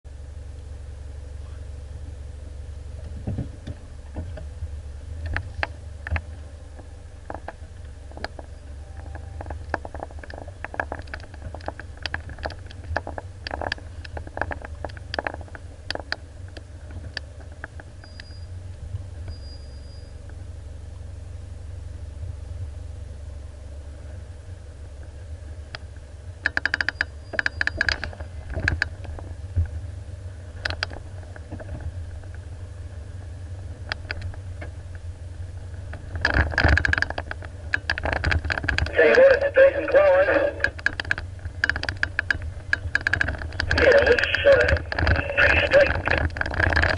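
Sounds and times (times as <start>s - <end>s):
vehicle engine drone: 0.0s - 46.9s
vehicle clicks and rattles: 2.9s - 20.5s, 24.8s - 46.9s.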